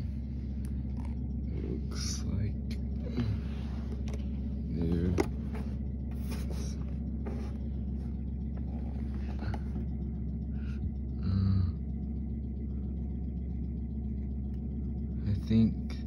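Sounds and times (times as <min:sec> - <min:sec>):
constant hum: 0:00.0 - 0:16.0
low background rumble: 0:00.0 - 0:16.0.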